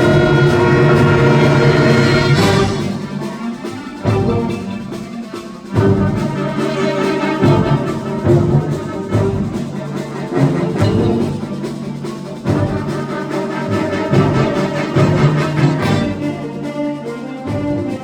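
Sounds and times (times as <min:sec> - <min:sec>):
sharp accented percussion hits: 0:00.0 - 0:16.7
concert band playing: 0:00.0 - 0:18.0.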